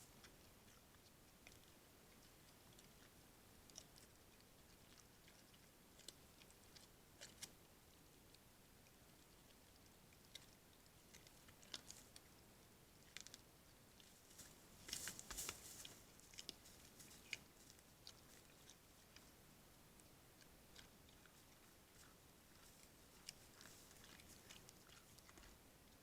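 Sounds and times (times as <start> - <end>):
animal crunching and clicking: 0.0 - 26.0.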